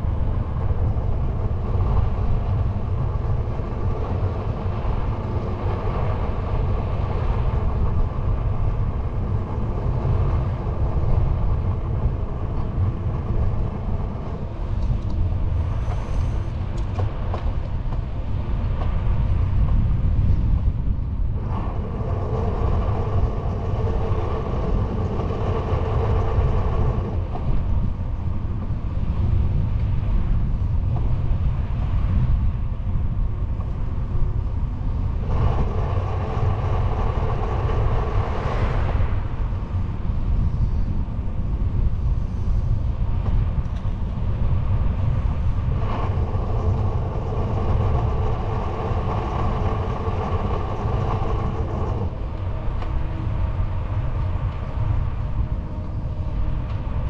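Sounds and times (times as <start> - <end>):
bicycle tyres humming on asphalt: 0.0 - 57.0
wind rumble on microphone: 0.0 - 57.0.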